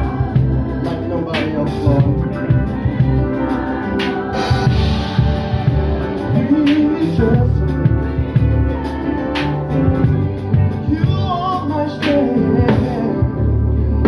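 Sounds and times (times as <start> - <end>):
drum kit beat: 0.0 - 14.0
guitar: 0.0 - 14.0
singing voices: 0.0 - 14.0.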